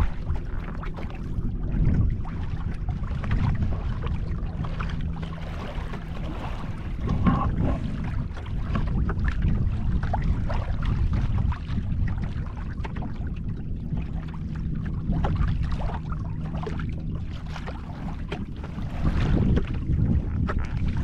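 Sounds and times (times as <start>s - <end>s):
water splashing against hull: 0.0s - 21.0s
wind rumble on microphone: 0.0s - 21.0s.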